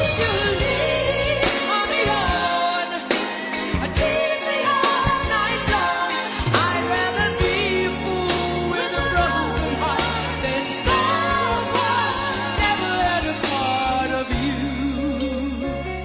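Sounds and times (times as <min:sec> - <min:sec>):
woman singing: 0:00.0 - 0:15.8
band with bass and drums: 0:00.0 - 0:16.0.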